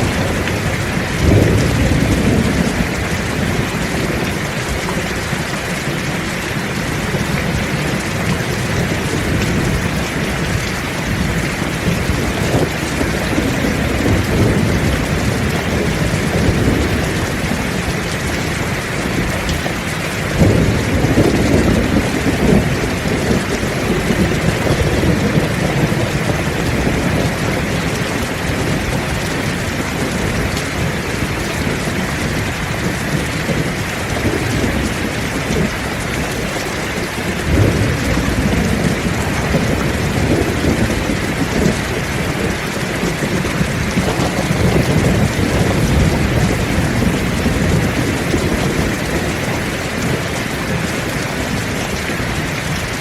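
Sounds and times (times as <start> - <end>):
heavy rain falling: 0.0 - 53.0
rolling thunder: 0.0 - 53.0.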